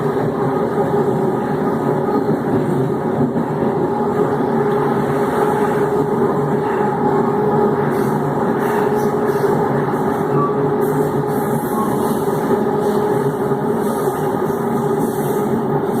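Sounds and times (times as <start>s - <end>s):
electric train motors growling: 0.0s - 16.0s
train rumble: 0.0s - 16.0s.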